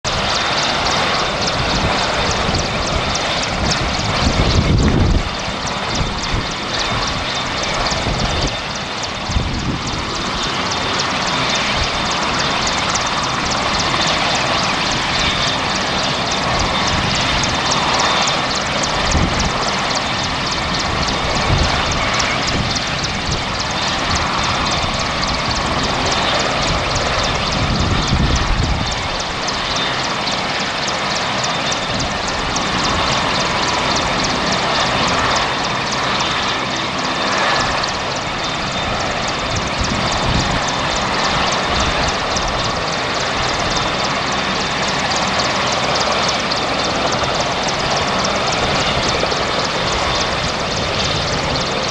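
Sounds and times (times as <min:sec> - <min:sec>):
helicopter engines running: 0:00.0 - 0:51.9
helicopter rotor chop: 0:00.0 - 0:51.9.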